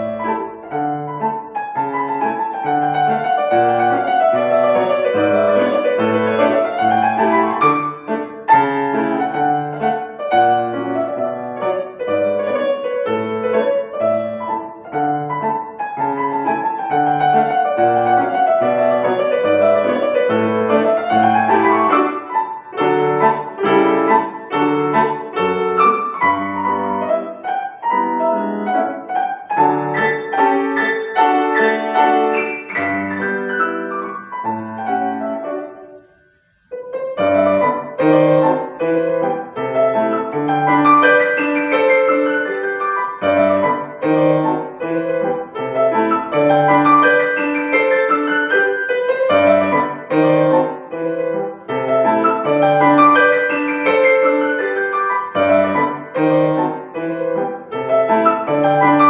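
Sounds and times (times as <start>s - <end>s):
classical piano piece: 0.0s - 59.0s.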